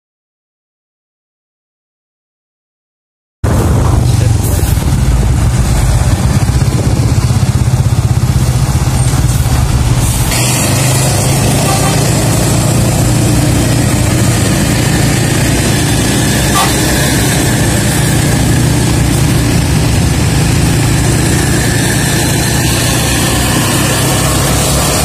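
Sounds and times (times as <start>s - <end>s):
engine and road noise: 3.4s - 25.0s.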